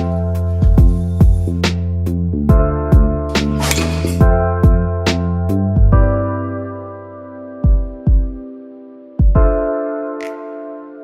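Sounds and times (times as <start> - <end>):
music with keyboard chords: 0.0 - 3.4, 4.2 - 11.0.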